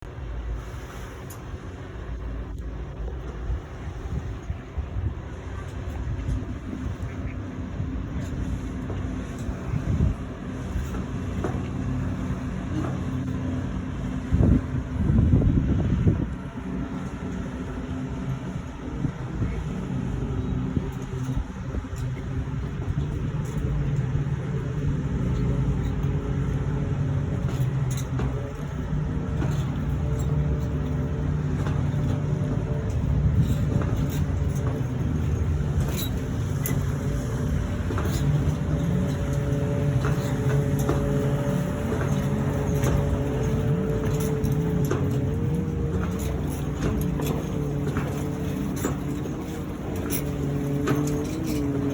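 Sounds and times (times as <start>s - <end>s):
low engine drone with held tones: 0.0s - 51.9s.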